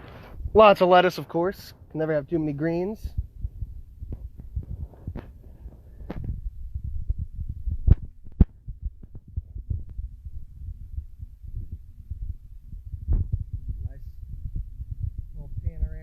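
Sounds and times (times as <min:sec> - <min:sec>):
wind and handling rumble on microphone: 0:00.0 - 0:16.0.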